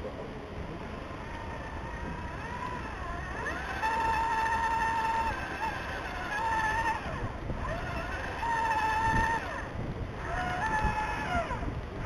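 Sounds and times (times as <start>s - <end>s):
electric motor and gearbox whine: 0.7s - 12.0s.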